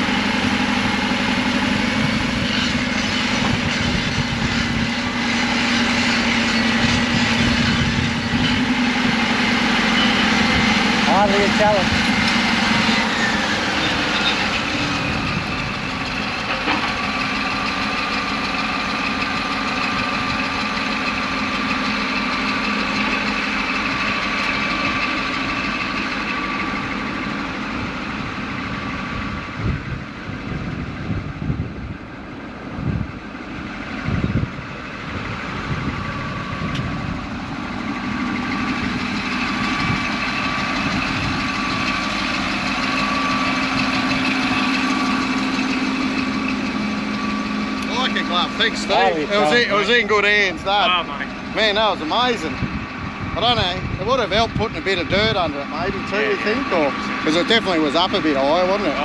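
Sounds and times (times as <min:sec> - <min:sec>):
bulldozer diesel engine whining: 0:00.0 - 0:59.0.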